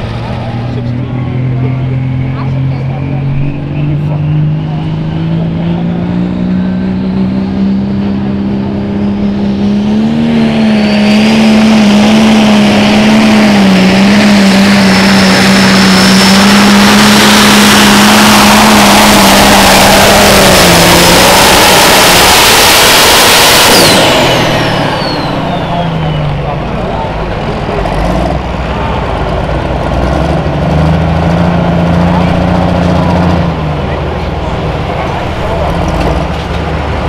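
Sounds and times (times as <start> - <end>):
diesel tractor engine at full throttle: 0.0 - 37.0.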